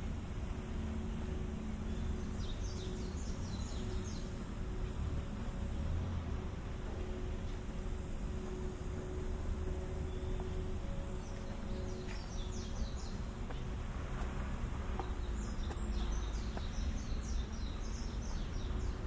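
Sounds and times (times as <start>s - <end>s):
low outdoor rumble: 0.0s - 19.0s
songbird chirping: 0.0s - 19.0s.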